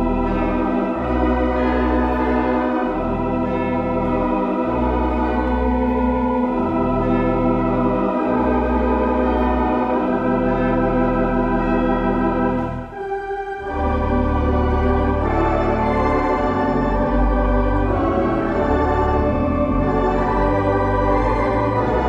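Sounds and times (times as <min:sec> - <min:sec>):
pipe organ chords: 0:00.0 - 0:22.0.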